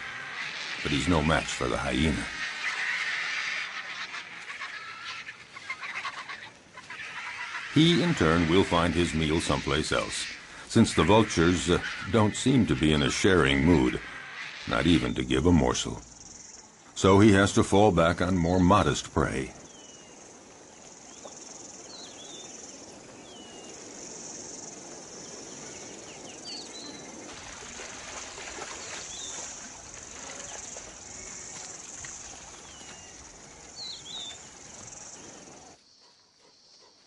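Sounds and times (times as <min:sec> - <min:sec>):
high-pitched insect chorus: 0:00.0 - 0:37.0.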